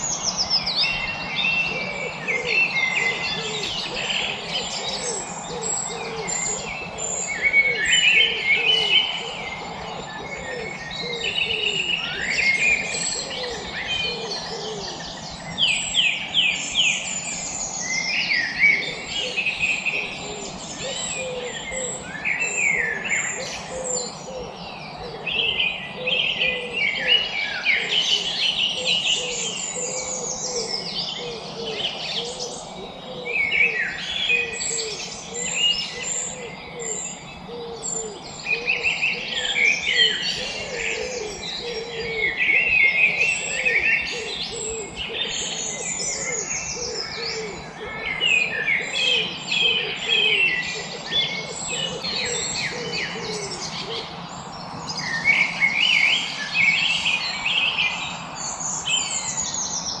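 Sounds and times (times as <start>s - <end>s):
songbirds chirping chorus: 0.0s - 60.0s.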